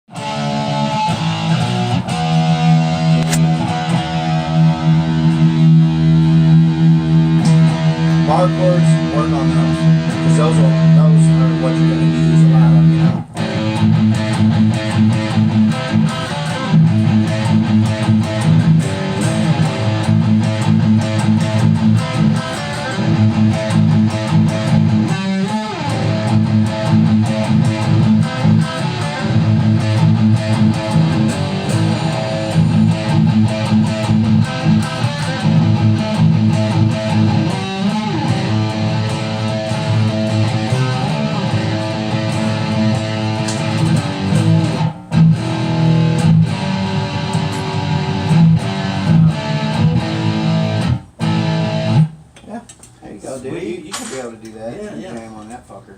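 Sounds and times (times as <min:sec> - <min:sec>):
guitar strumming chords: 0:00.1 - 0:52.2.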